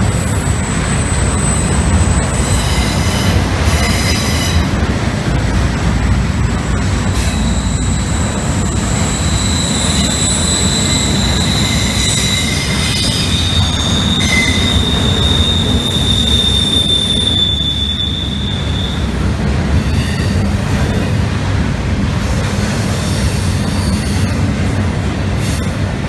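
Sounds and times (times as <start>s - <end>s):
high wheel squeal: 0.0s - 4.8s, 6.4s - 21.3s, 22.8s - 24.6s, 25.3s - 25.8s
freight train rumbling on rails: 0.0s - 26.0s.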